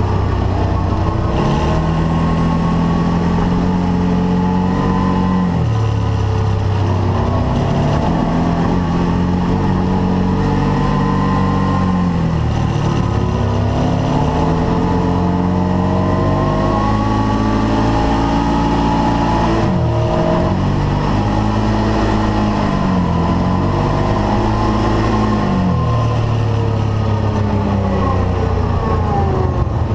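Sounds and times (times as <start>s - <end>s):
engine revving: 0.0s - 29.9s.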